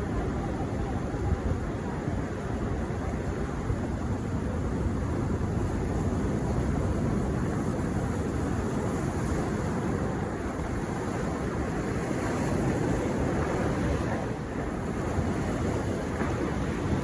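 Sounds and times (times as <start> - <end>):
ocean waves rushing on beach: 0.0 - 17.0.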